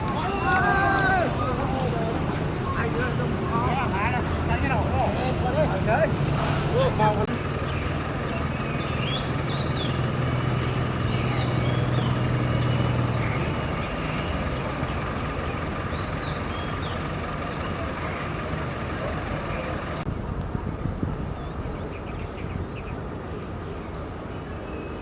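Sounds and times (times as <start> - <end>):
birds chirping: 0.0 - 20.1
vehicle engine running: 0.0 - 21.0
traffic noise: 0.0 - 25.0.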